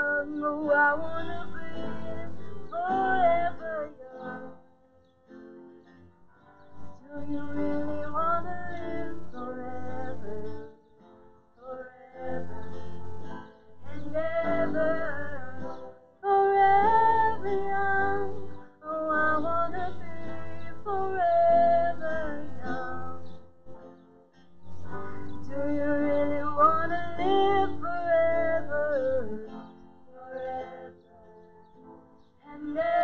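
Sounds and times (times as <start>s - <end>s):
person singing a melody: 0.0s - 4.7s, 7.0s - 11.0s, 11.6s - 23.5s, 25.2s - 33.0s
guitar accompaniment: 0.0s - 33.0s.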